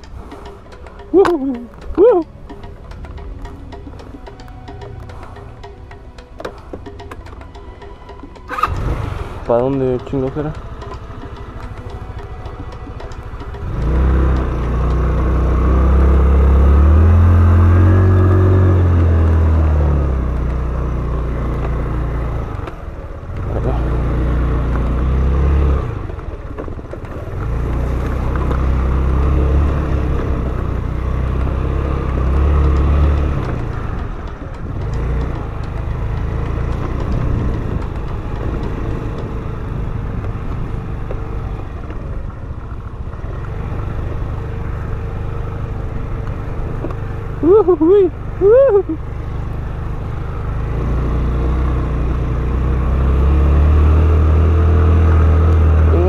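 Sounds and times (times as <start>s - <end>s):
scooter engine revving: 8.5s - 56.0s.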